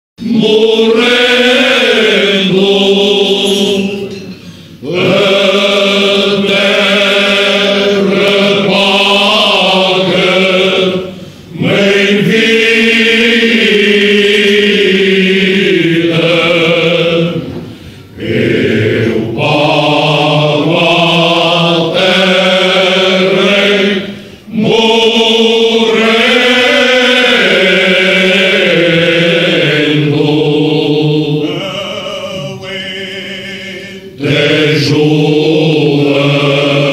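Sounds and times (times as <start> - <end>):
men's choir singing unaccompanied: 0.2 - 36.9.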